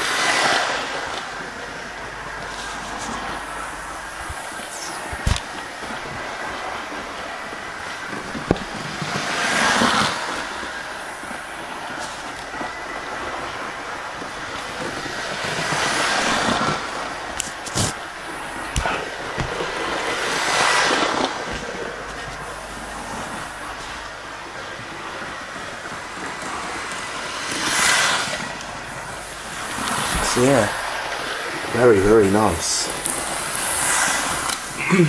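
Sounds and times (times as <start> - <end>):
model train whirring: 0.0 - 35.0.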